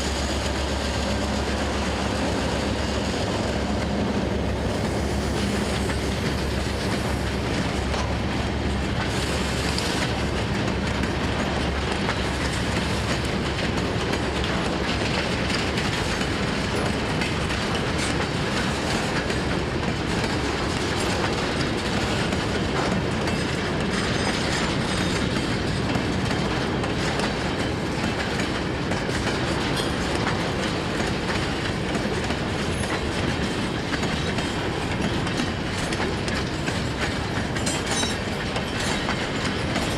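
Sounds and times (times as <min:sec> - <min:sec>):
train wheels clattering on rail joints: 0:00.0 - 0:39.9.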